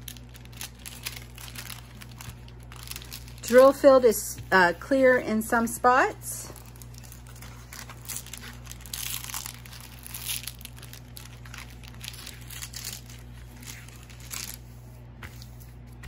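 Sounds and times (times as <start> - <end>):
plastic film crinkling: 0.0 - 5.0, 6.4 - 16.0.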